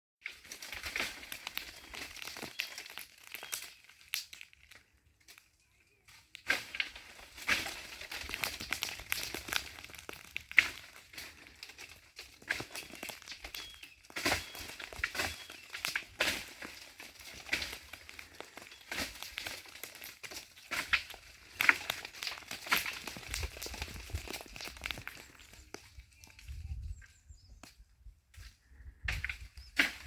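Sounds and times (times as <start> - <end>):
walnuts dropping onto dry leaves: 0.2 - 26.9.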